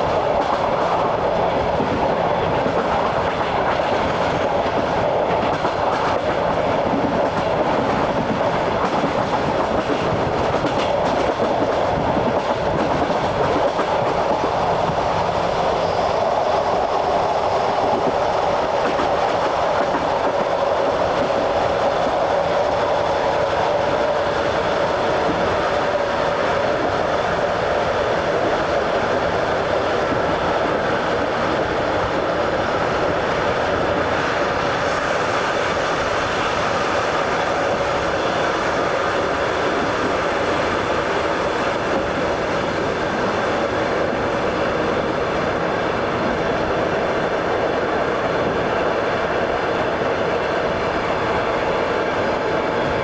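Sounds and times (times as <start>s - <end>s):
train wheels on track: 0.0s - 53.0s.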